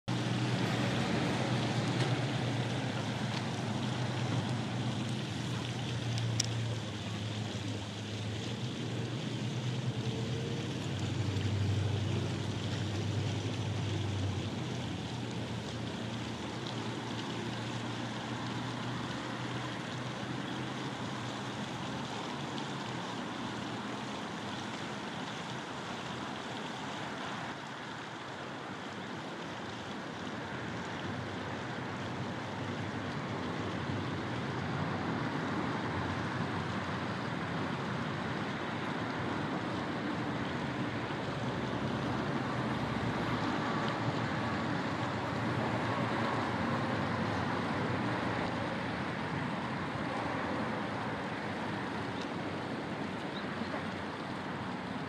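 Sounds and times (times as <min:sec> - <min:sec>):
steady rushing outdoor noise: 0:00.0 - 0:55.0.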